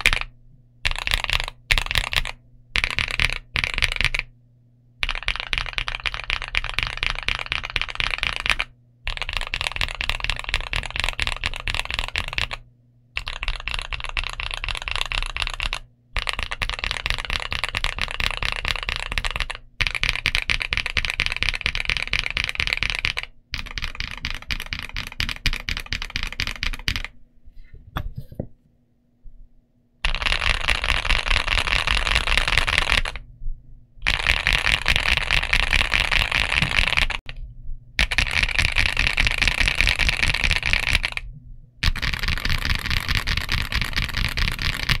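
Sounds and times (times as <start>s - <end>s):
fast typing on mechanical keyboard: 0.0s - 4.3s, 5.0s - 12.6s, 13.2s - 27.2s, 30.0s - 33.2s, 34.0s - 37.4s, 38.0s - 45.0s.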